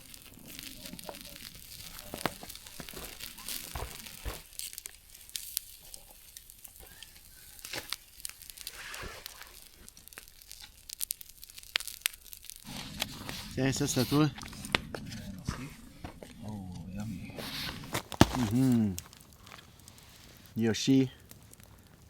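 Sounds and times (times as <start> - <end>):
crinkling rustles: 0.0 - 15.3, 17.4 - 22.0.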